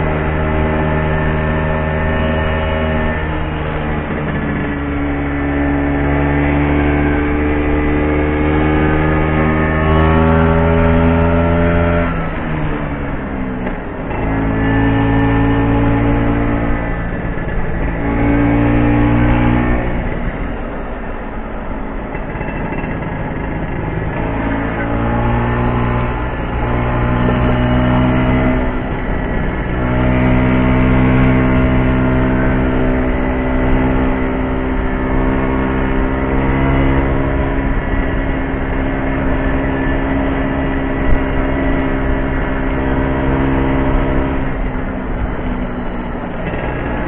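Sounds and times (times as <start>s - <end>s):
scooter engine running: 0.0s - 47.0s.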